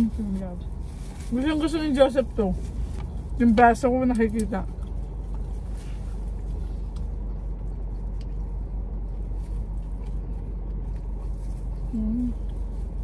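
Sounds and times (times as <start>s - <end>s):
car cabin low hum: 0.0s - 13.0s.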